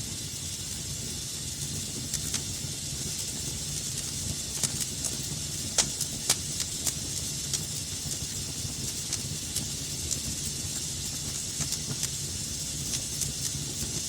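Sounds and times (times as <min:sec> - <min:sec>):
fire crackles and pops: 0:00.0 - 0:14.0
wood fire rumble and hiss: 0:00.0 - 0:14.0.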